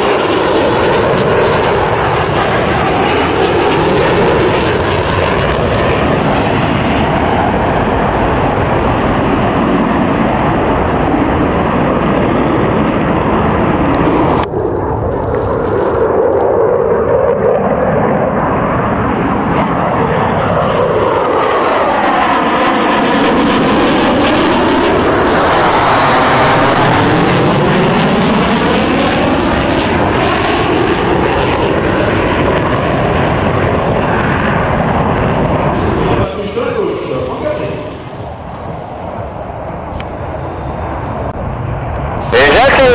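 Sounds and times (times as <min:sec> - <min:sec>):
fighter jets flying past: 0:00.0 - 0:42.9.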